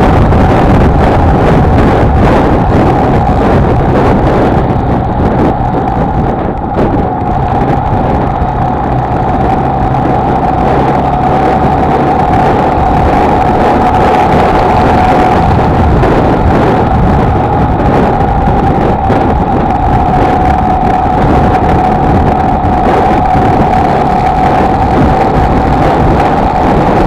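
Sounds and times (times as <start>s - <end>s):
motorcycle engine cruising: 0.0s - 27.0s
wind rush on microphone: 0.0s - 27.0s.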